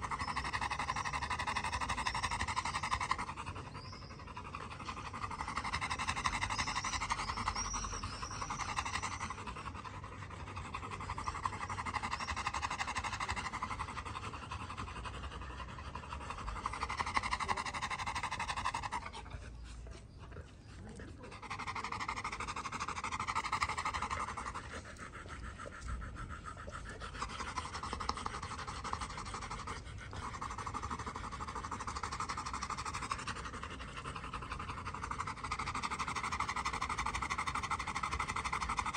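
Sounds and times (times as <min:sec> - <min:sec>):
dogs panting: 0:00.0 - 0:38.9.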